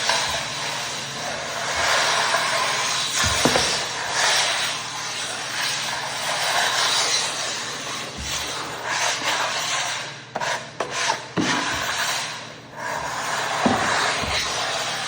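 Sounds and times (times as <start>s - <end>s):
pad scrubbing wooden floor: 0.0s - 15.0s.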